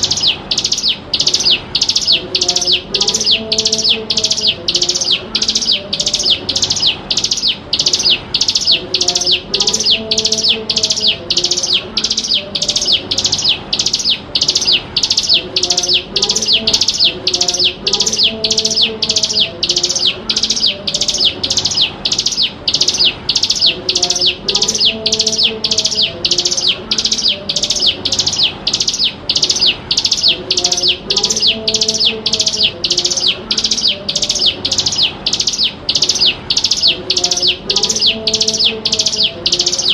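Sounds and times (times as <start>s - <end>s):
bird rapid high chirping: 0.0s - 39.9s.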